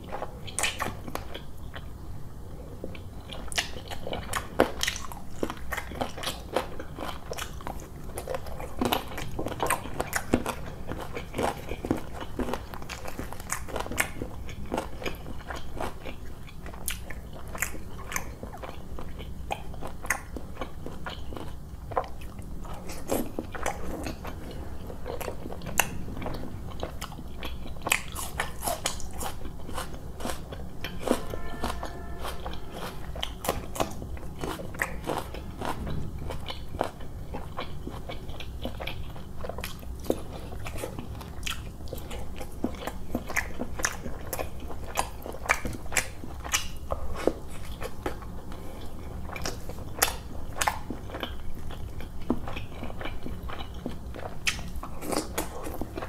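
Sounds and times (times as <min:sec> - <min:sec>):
man chewing with wet smacking: 0:00.0 - 0:56.0.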